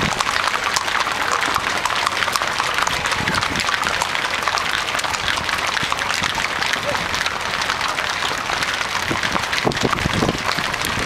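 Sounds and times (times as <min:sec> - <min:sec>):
cattle hooves clattering on pavement: 0:00.0 - 0:11.0.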